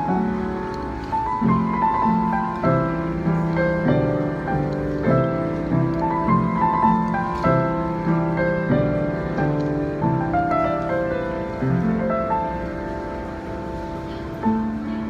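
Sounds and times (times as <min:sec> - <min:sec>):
solo piano pop ballad: 0:00.0 - 0:15.0.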